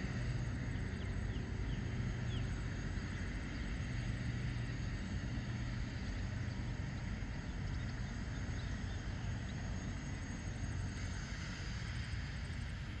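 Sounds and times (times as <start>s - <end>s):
twin piston aircraft engines droning: 0.0s - 13.0s.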